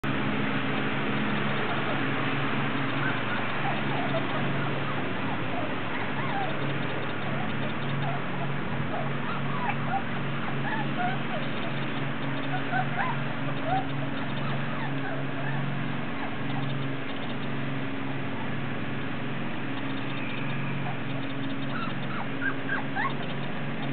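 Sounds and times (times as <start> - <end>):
steady low hum: 0.0 - 23.9
puppies squeaking and whining: 1.2 - 18.6, 19.6 - 23.9.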